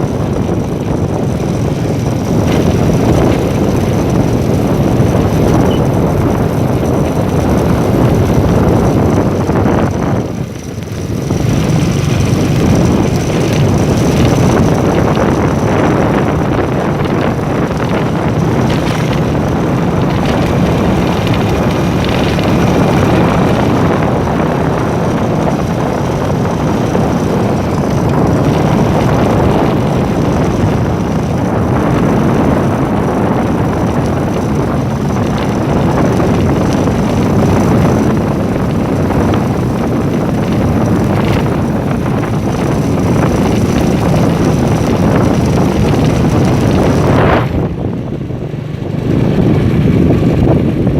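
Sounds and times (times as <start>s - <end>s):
vehicle road noise: 0.0s - 50.9s
wind on microphone: 0.0s - 50.9s.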